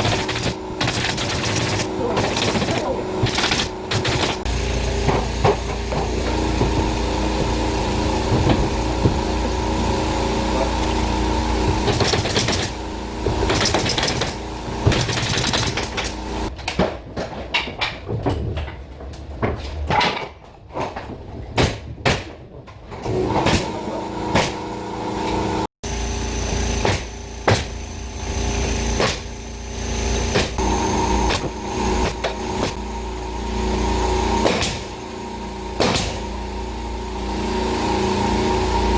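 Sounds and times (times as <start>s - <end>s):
small motor running: 0.0s - 16.5s, 23.7s - 38.9s.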